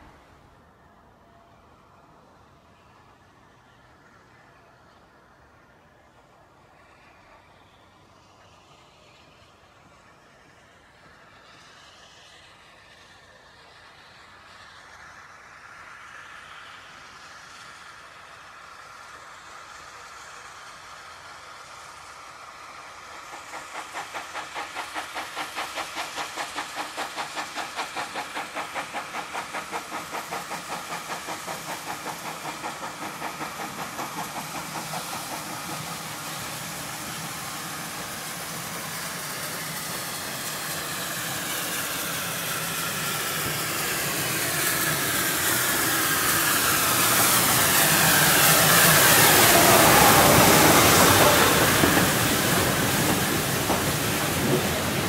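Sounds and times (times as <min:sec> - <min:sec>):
steam locomotive chuffing: 0:00.0 - 0:55.0
train hiss and rumble: 0:00.0 - 0:55.0.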